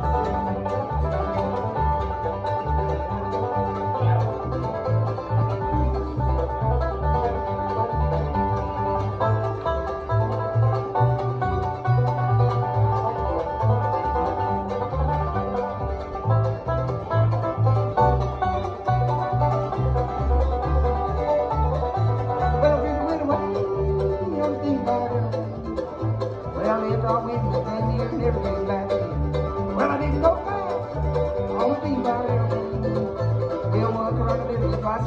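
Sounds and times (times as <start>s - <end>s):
banjo picking: 0.0s - 35.0s
mandolin: 0.0s - 35.0s
upright bass line: 0.0s - 35.0s.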